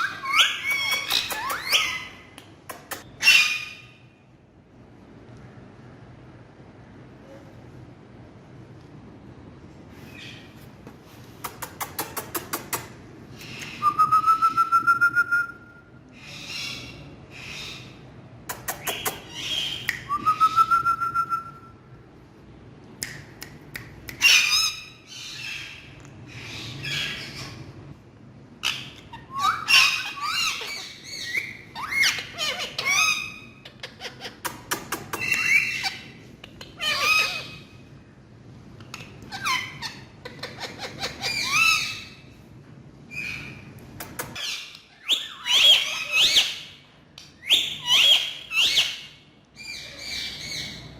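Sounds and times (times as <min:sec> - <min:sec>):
parrot calls and chatter: 0:00.0 - 0:04.4, 0:09.0 - 0:22.3, 0:22.9 - 0:50.9.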